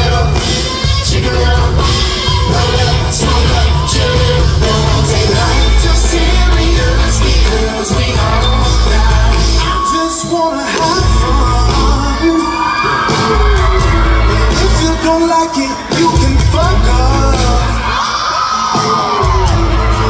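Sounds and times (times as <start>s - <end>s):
heavy bass: 0.0s - 9.9s, 10.8s - 18.0s, 19.2s - 20.0s
man singing: 0.0s - 18.1s
drums: 0.0s - 20.0s.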